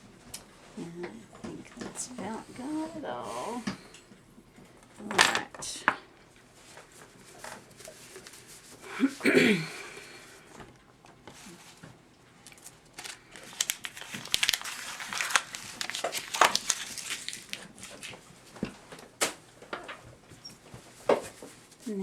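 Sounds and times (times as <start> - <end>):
crumpling and rustling with crackles: 0.0 - 9.2, 10.1 - 22.0.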